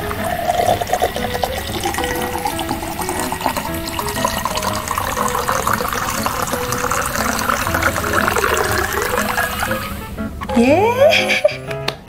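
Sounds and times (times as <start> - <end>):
water trickling into plastic cup: 0.0 - 9.9
background music simple melody: 0.0 - 12.0.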